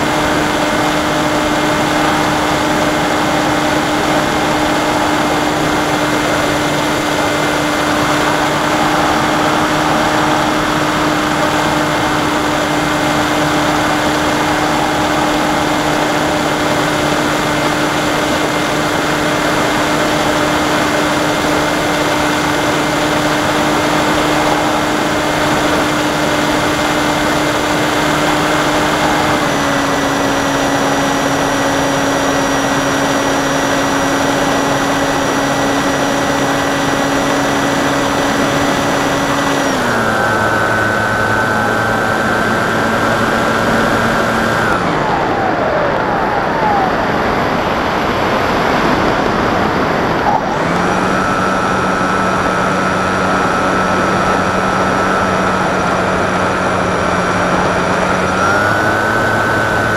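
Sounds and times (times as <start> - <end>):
model plane motor whine: 0.0 - 59.9
rushing airflow: 0.0 - 59.9.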